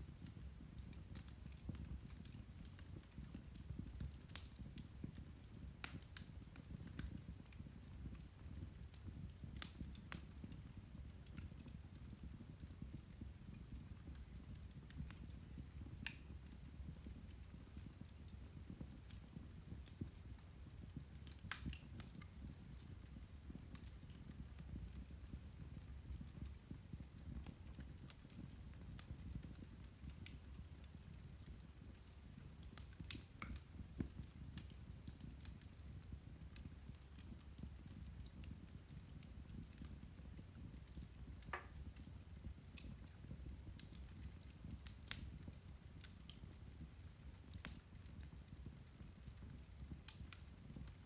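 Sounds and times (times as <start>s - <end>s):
fire crackling and popping: 0.0s - 51.0s.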